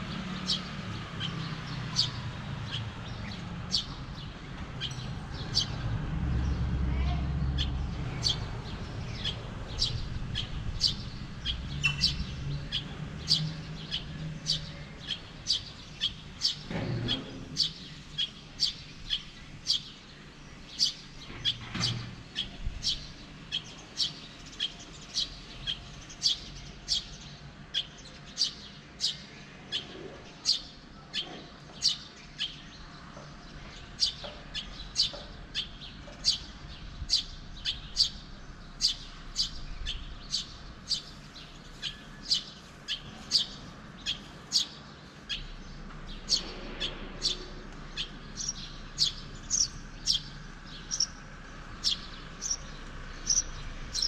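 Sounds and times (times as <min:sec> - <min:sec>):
small bird chirping: 0:07.6 - 0:54.0.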